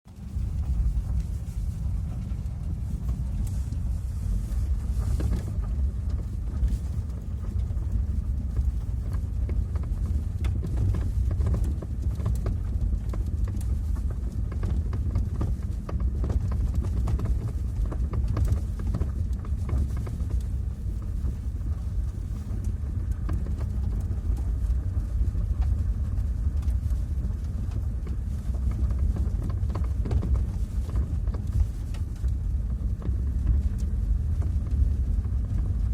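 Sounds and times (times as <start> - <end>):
car driving low rumble: 0.0 - 35.9.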